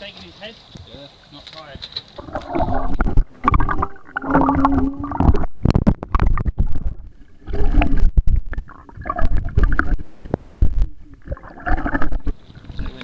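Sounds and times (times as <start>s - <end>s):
muffled underwater gurgling: 2.2s - 13.0s.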